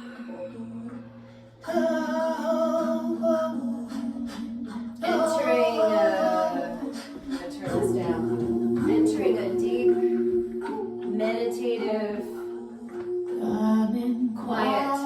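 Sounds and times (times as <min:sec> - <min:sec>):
woman singing wordless tones: 0:00.0 - 0:15.0
steady low hum: 0:00.5 - 0:14.6.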